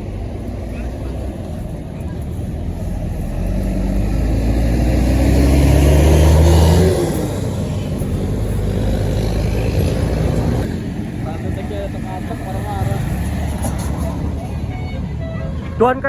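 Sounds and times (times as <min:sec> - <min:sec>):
bus driving past: 0:00.0 - 0:16.0
traffic noise: 0:00.0 - 0:16.0.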